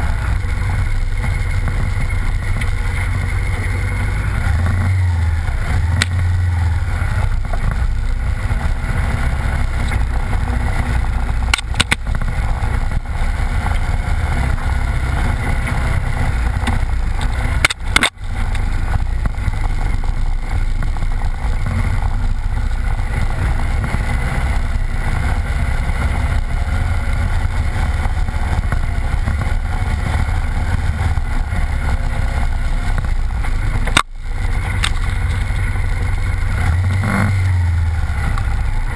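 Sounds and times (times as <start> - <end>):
off-road vehicle engine: 0.0 - 38.9
tyre noise on dirt: 0.0 - 38.9
wind: 0.0 - 38.9.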